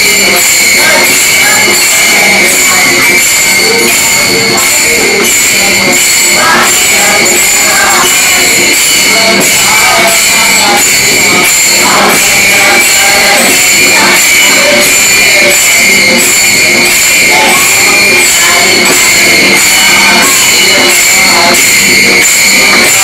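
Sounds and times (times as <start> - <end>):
small hand cymbals clashing: 0.0 - 23.0
women singing chant in unison: 0.0 - 23.0.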